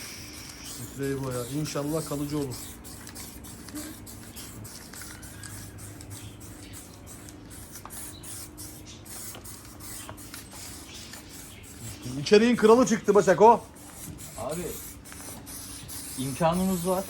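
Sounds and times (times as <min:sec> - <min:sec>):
spray paint can hissing: 0:00.0 - 0:17.0.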